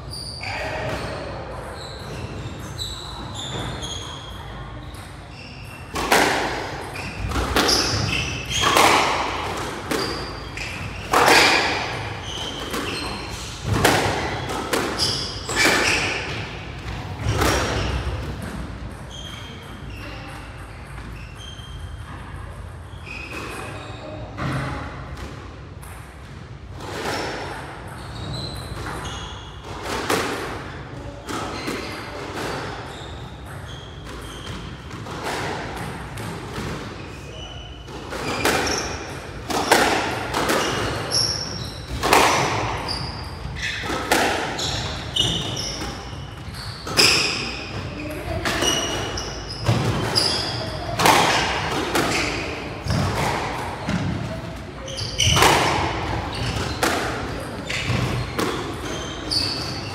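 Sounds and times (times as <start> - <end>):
shoes squeaking on court floor: 0.0 - 24.8, 25.8 - 30.0, 30.6 - 59.9
squash ball striking rackets and walls: 0.4 - 59.9.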